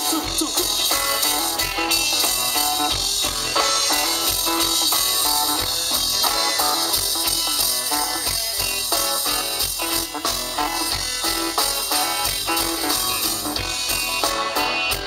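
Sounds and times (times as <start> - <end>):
banjo: 0.0 - 15.0
bass: 0.0 - 15.0
drum kit: 0.0 - 15.0
electric guitar: 0.0 - 15.0.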